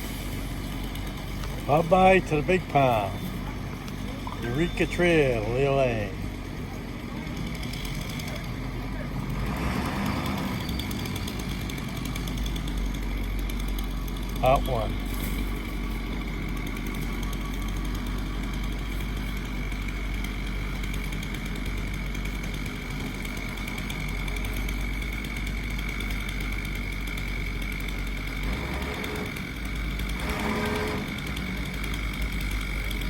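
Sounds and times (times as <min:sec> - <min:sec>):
machine whining and rumbling: 0:00.0 - 0:33.0.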